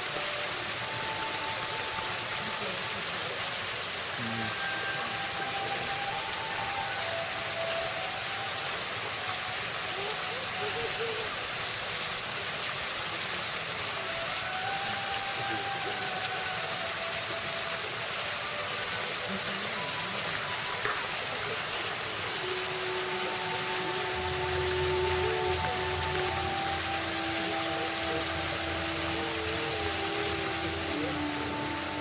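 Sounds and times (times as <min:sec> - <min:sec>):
fountain water splashing: 0:00.0 - 0:32.0.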